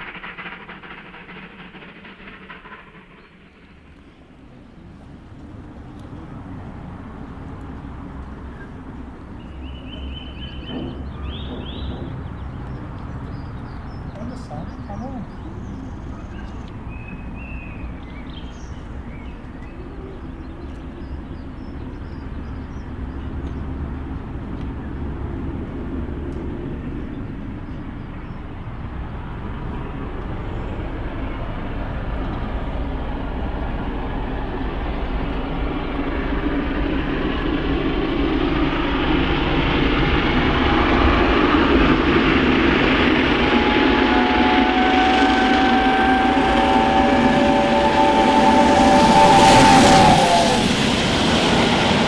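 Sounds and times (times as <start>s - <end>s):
steam locomotive approaching: 0.0s - 52.0s.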